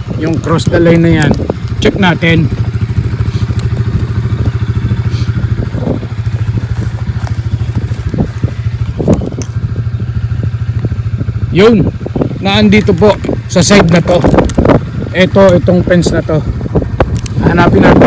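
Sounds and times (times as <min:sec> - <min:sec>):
motorbike engine idling: 0:00.0 - 0:18.0.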